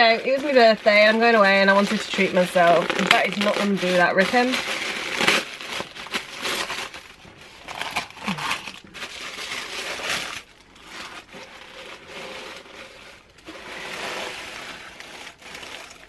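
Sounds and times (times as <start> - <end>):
shredded paper crackling: 0.0 - 16.0
tissue paper rustling: 0.0 - 16.0.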